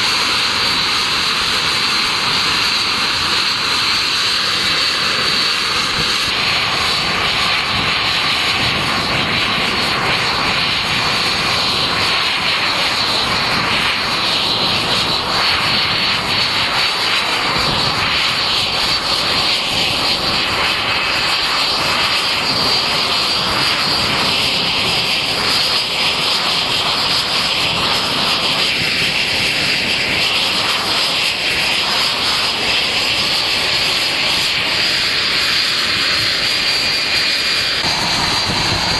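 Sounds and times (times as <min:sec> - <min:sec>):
high engine whine: 0:00.0 - 0:38.9
jet engine running: 0:00.0 - 0:38.9.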